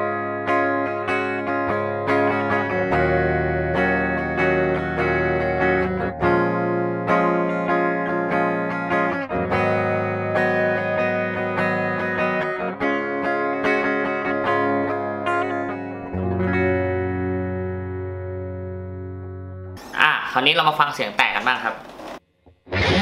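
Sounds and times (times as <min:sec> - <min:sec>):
clean electric guitar chords: 0:00.0 - 0:19.8, 0:22.6 - 0:23.0.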